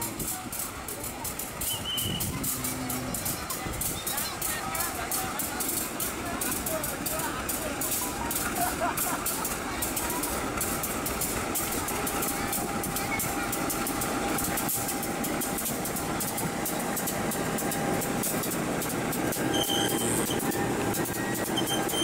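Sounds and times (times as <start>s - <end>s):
locomotive engine drone: 0.0s - 22.0s
wheels clicking on rails: 0.0s - 22.0s.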